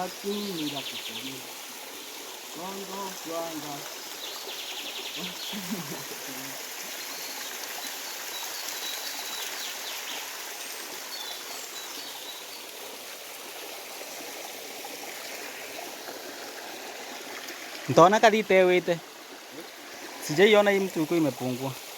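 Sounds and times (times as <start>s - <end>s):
stream water rushing: 0.0s - 21.9s.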